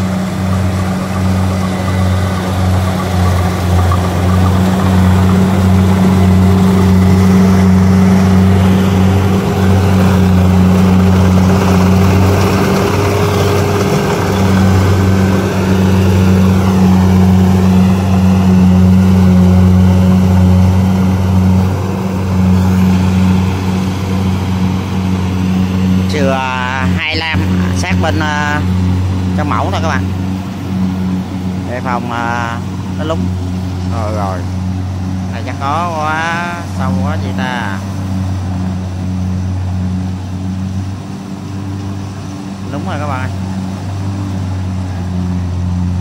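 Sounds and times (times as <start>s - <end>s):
combine harvester engine droning: 0.0s - 46.0s.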